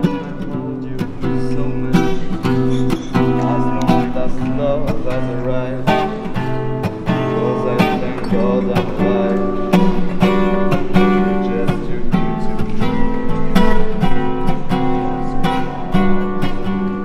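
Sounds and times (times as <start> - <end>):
song with strummed acoustic guitar: 0.0 - 17.0.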